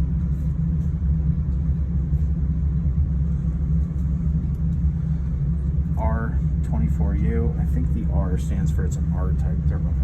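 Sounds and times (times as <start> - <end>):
low rumble with hum: 0.0 - 10.0.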